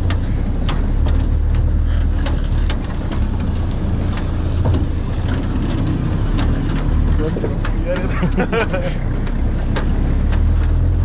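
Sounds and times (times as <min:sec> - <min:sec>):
diesel engine droning under load: 0:00.0 - 0:11.0
knocks and rattles of truck bed: 0:00.0 - 0:11.0.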